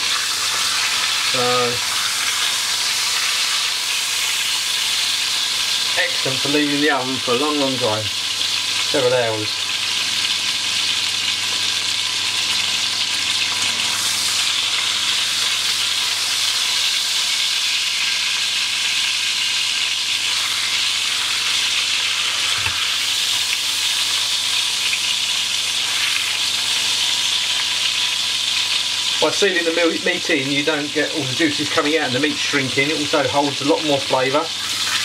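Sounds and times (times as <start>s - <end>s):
meat sizzling in hot oil: 0.0s - 35.0s.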